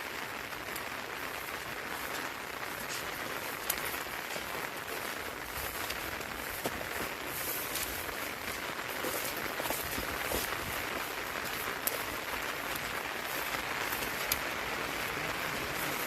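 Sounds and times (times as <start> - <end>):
raindrops tapping: 0.0 - 16.0
steady rain: 0.0 - 16.0.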